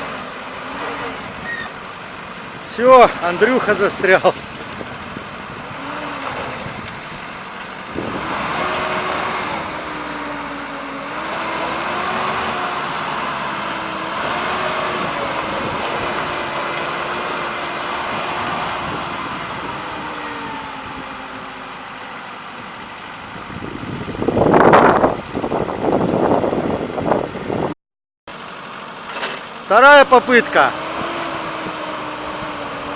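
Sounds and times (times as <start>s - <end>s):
engine revving under load: 0.0s - 27.7s, 29.1s - 32.9s.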